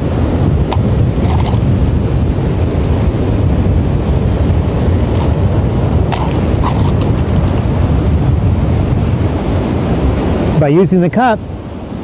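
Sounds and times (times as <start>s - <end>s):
ocean surf: 0.0s - 12.0s
wind buffeting the microphone: 0.0s - 12.0s.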